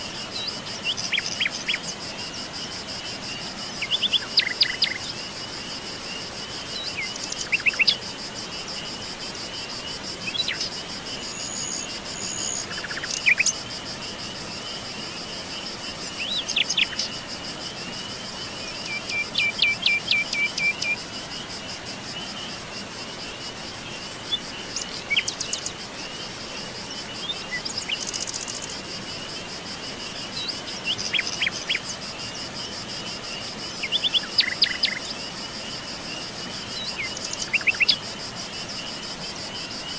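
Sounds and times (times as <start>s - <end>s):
pulsing insect trill: 0.0s - 39.9s.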